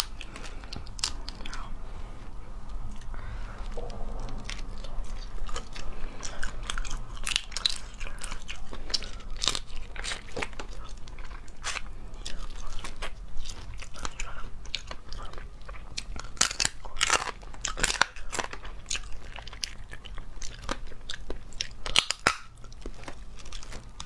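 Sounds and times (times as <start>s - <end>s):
crisp biting and chewing: 0.0s - 1.7s, 2.3s - 24.0s
crustacean shells cracking: 0.0s - 1.7s, 3.1s - 24.0s.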